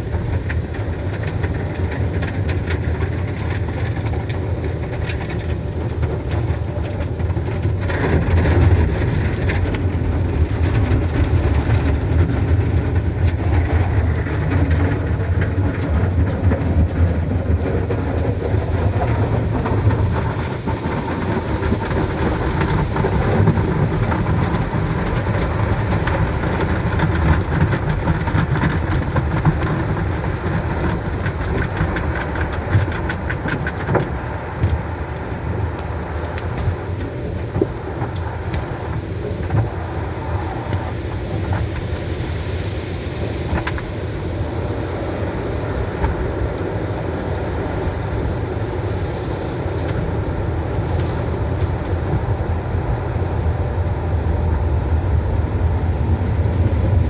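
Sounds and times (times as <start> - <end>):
car wash machinery running: 0.0 - 57.0.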